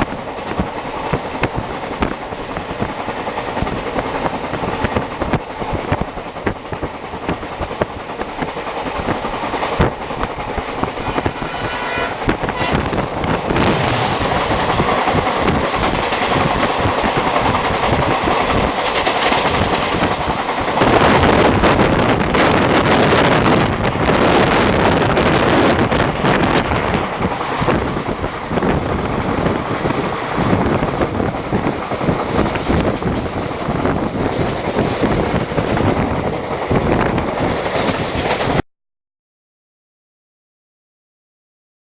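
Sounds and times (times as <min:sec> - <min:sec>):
wind rushing: 0:00.0 - 0:18.8, 0:19.4 - 0:38.6
train wheels clattering over rail joints: 0:00.0 - 0:38.6.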